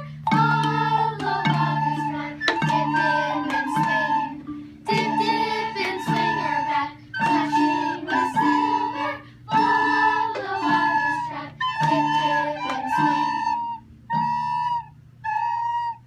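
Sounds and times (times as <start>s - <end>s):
children playing recorders: 0.0s - 16.0s
lower accompaniment: 0.0s - 16.0s.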